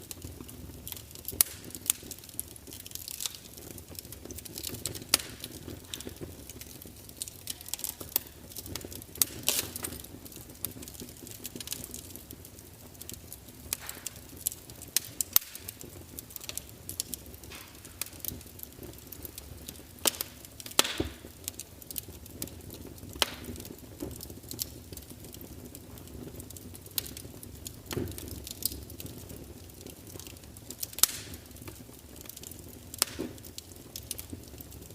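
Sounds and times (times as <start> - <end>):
log fire crackling: 0.0 - 34.9.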